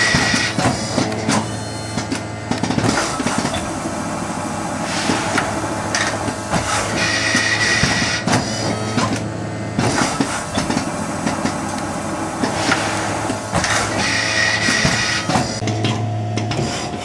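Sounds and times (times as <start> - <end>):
machine clicks and clacks: 0.0 - 3.8, 4.8 - 17.0
machine low hum: 0.0 - 17.0.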